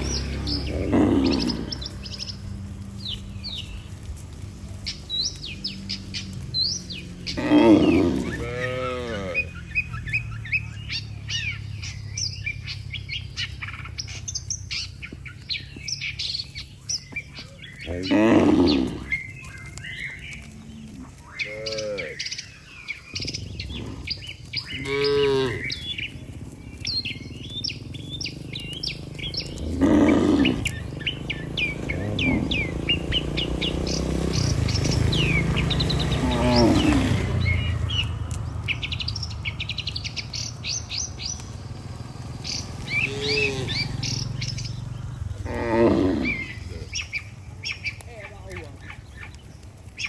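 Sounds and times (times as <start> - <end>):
cattle mooing: 0.0 - 48.8
low steady rumble: 0.0 - 50.0
small birds chirping: 0.0 - 50.0.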